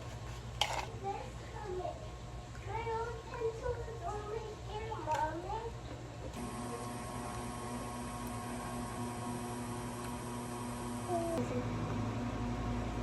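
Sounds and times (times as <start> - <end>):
electrical motor hum: 0.0 - 13.0.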